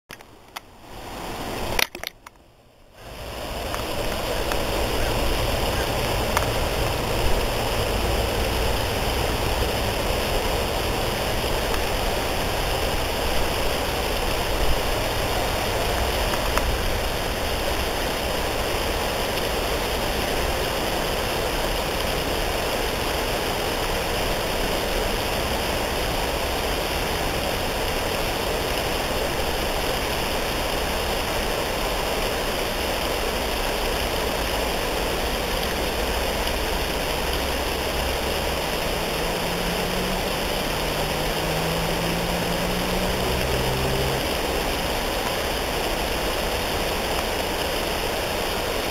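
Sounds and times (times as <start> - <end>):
steady rushing noise: 0.1 - 48.9.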